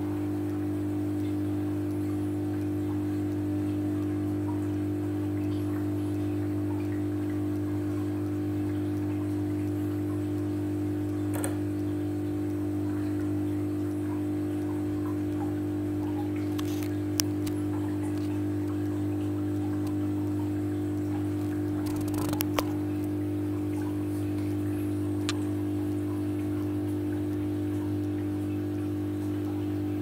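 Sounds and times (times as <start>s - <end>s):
aquarium pump electrical hum: 0.0s - 30.0s.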